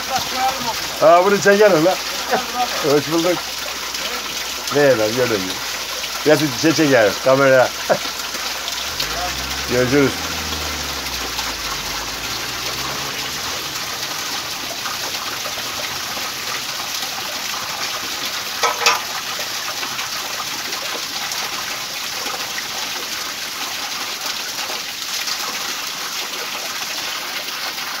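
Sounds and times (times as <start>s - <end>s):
water splashing on mill wheel: 0.0s - 28.0s.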